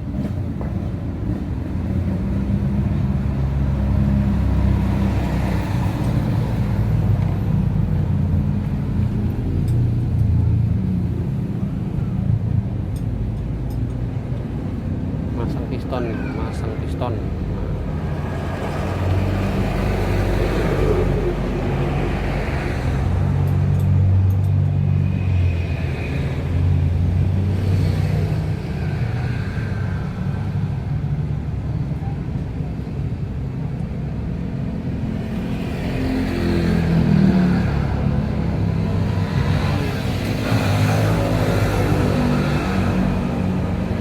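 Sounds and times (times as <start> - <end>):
traffic passing: 0.0 - 44.0.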